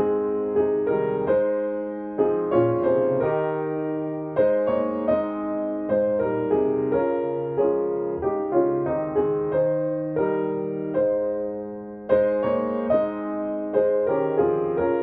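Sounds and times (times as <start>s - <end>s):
solo piano playing a hymn: 0.0s - 15.0s.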